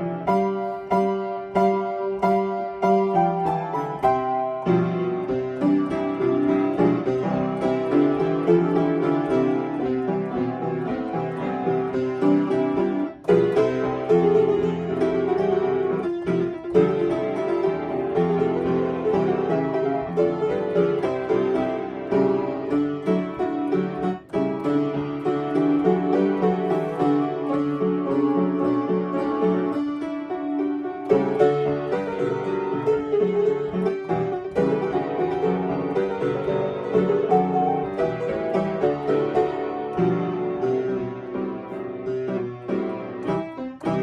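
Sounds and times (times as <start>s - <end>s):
piano melody over chords: 0.0s - 44.0s.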